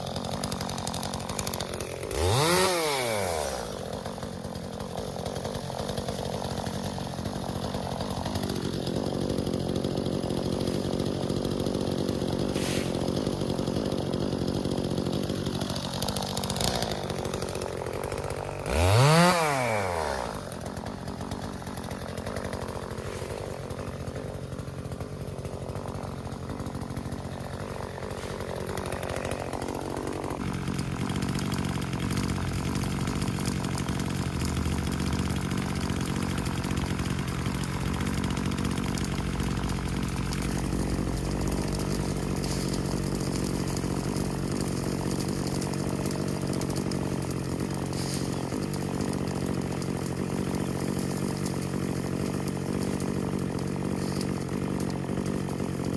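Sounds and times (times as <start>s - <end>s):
chainsaw running with revs: 0.0s - 55.9s.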